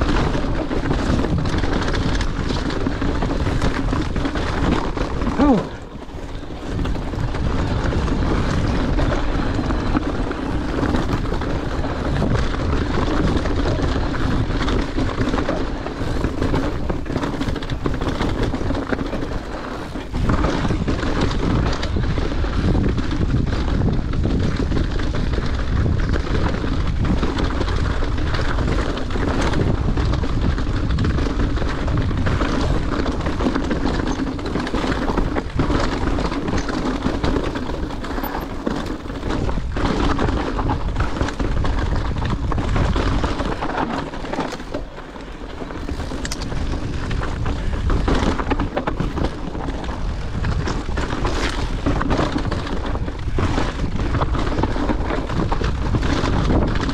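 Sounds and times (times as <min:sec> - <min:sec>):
tyres crunching over rock: 0:00.0 - 0:23.5, 0:27.0 - 0:56.9
bike rattling: 0:00.0 - 0:56.9
wind buffeting microphone: 0:00.0 - 0:56.9.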